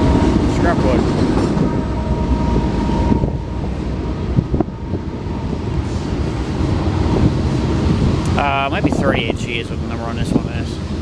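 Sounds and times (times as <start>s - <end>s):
freight train cars rumbling past: 0.0s - 11.0s
wind on microphone: 0.0s - 11.0s.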